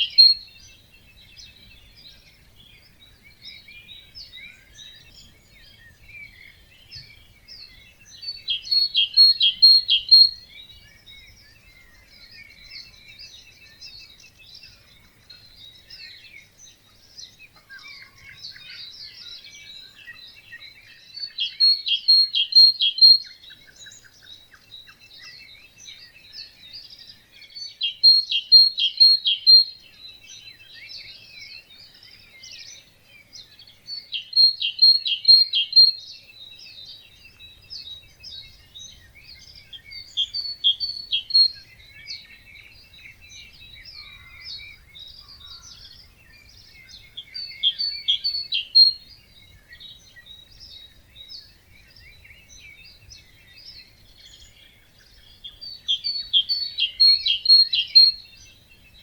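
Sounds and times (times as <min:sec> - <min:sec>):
bird singing quick phrase: 0:00.0 - 0:59.0
birds singing and calling: 0:00.0 - 0:59.0.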